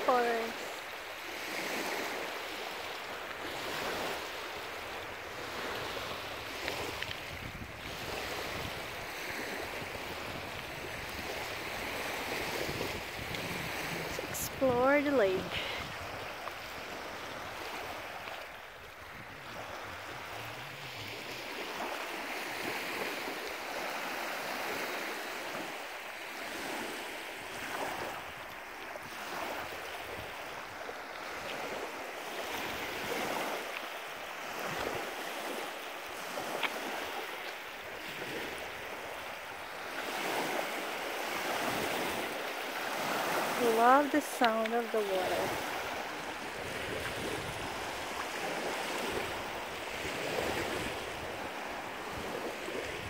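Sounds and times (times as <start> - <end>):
lake waves lapping on pebbles: 0.0 - 53.0.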